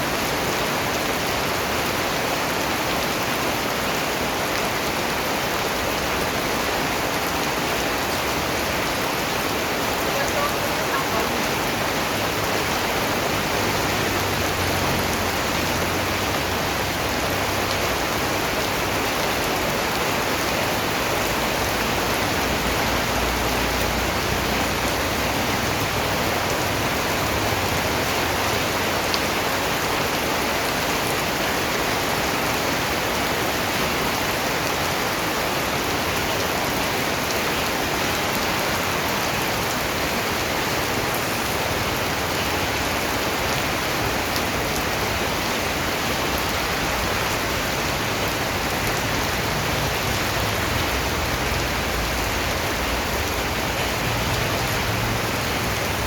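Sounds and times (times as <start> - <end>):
dense rainfall hissing: 0.0 - 56.0.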